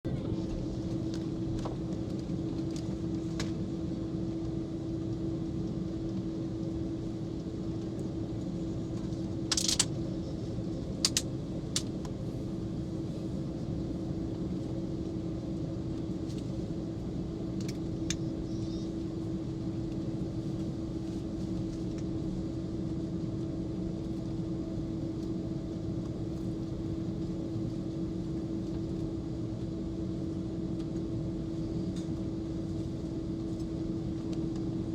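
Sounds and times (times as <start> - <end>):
aircraft cabin hum: 0.0 - 34.9.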